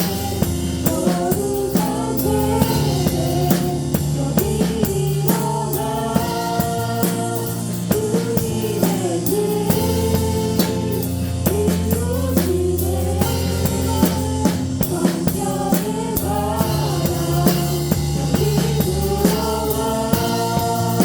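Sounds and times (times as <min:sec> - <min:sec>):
bass and keyboard tones: 0:00.0 - 0:21.0
drum kit beats: 0:00.0 - 0:21.0.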